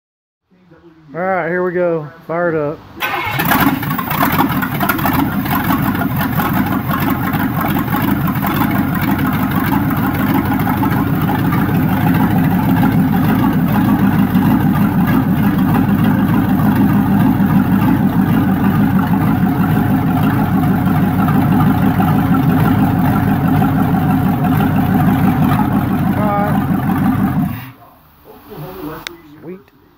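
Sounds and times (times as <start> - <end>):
loud choppy engine running: 3.0 - 27.6.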